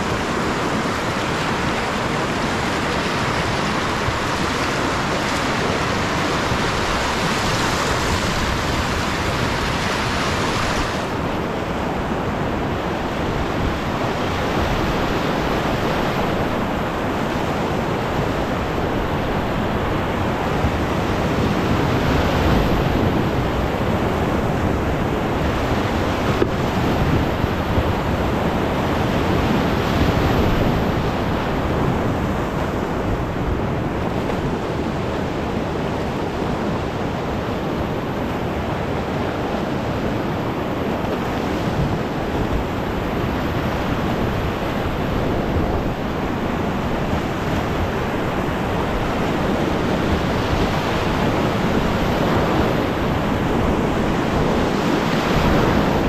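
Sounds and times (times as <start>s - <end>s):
whitewater rapids rushing: 0.0s - 56.0s.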